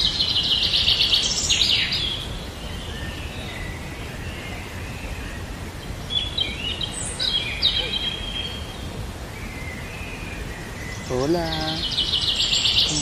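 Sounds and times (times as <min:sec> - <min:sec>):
faint high bird calls: 0:00.0 - 0:13.0
low background noise: 0:00.0 - 0:13.0.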